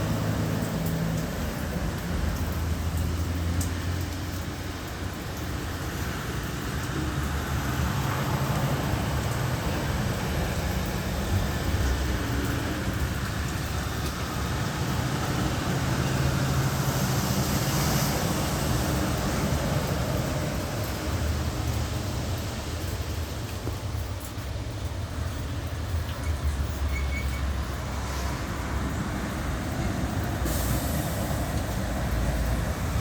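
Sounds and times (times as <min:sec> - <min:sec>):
rain: 0:00.0 - 0:33.0
tyres hissing on wet pavement: 0:00.0 - 0:33.0
vehicle engines humming: 0:00.0 - 0:33.0.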